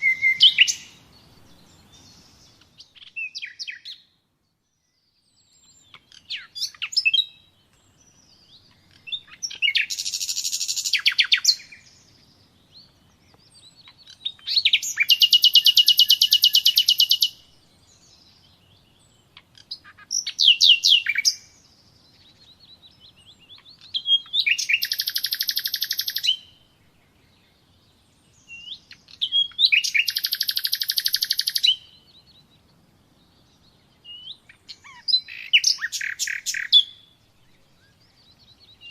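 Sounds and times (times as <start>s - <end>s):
songbird singing with fast trill: 0.0s - 38.9s.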